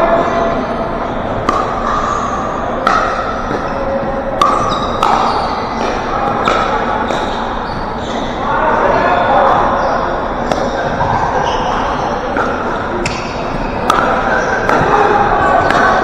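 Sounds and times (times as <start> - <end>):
gym hall din: 0.0 - 16.0.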